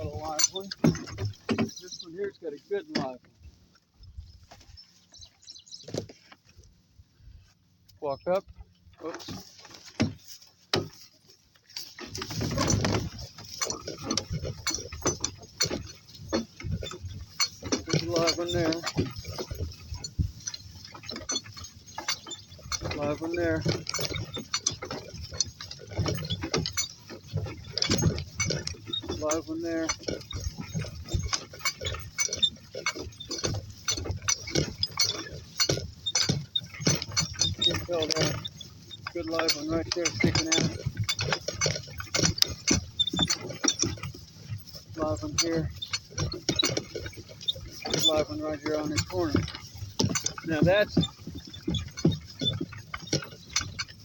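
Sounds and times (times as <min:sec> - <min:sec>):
donkey hoof steps: 0:00.0 - 0:54.0
hooves and halter clinks: 0:00.0 - 0:54.0
rustling through wet vegetation: 0:00.0 - 0:54.0.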